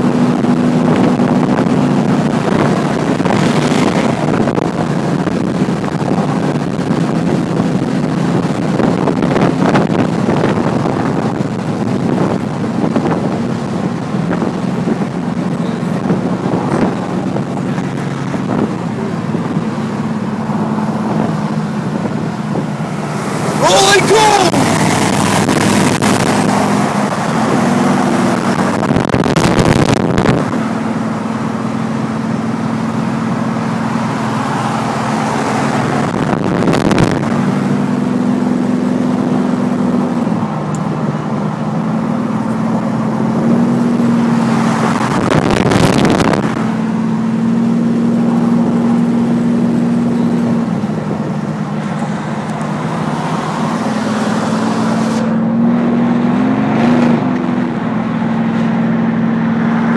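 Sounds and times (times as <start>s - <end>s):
car engine drone: 0.0s - 59.9s
loud rush of wind and road noise: 0.0s - 59.9s
road and wind noise: 0.0s - 59.9s.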